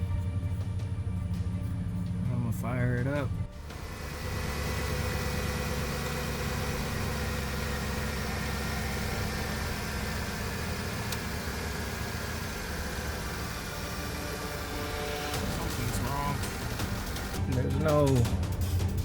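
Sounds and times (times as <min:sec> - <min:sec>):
car engine starting and idling: 0:00.0 - 0:19.0.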